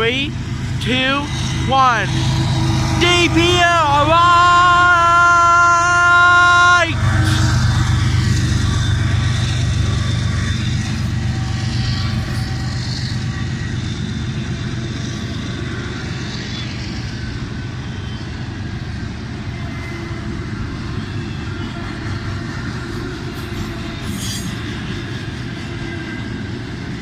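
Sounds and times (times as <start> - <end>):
freight cars rumbling on rails: 0.0 - 27.0.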